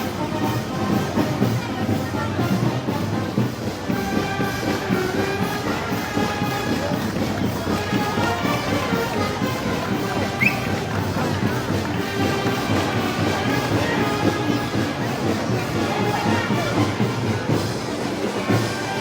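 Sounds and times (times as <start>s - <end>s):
festival band music: 0.0s - 19.0s
voices: 0.0s - 19.0s.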